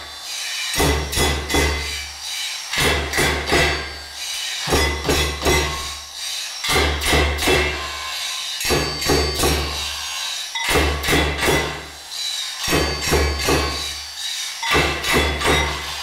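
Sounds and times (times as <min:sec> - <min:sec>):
hammers striking metal rhythmically: 0:00.0 - 0:16.0.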